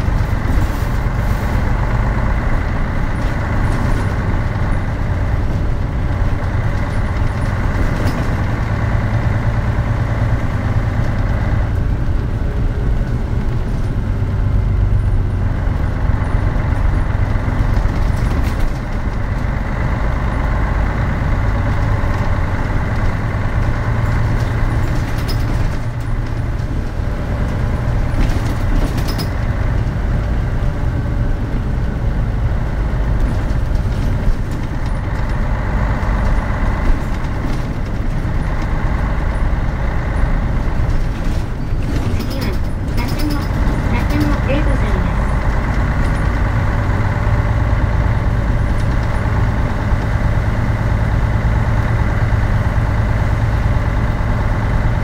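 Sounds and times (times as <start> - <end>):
bus diesel engine running: 0.0 - 55.0
road and body noise: 0.0 - 55.0.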